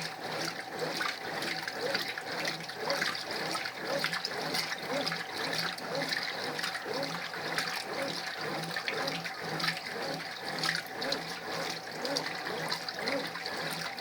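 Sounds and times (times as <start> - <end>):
washing machine motor whirring: 0.0 - 14.0.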